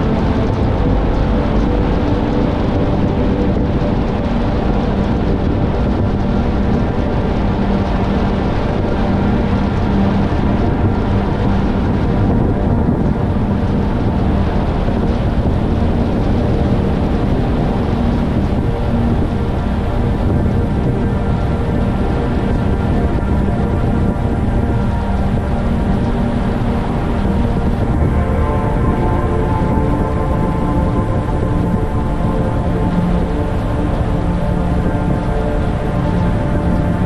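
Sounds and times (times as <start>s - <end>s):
low steady hum: 0.0s - 37.0s
wind rushing: 0.0s - 37.0s.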